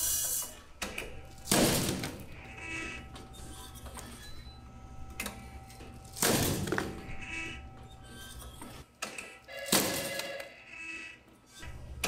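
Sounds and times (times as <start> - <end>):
machine low hum: 0.0 - 12.0.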